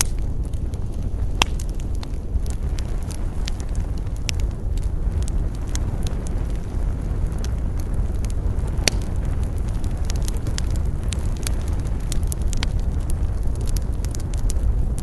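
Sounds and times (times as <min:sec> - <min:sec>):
campfire wood crackling: 0:00.0 - 0:15.0
low rumble: 0:00.0 - 0:15.0.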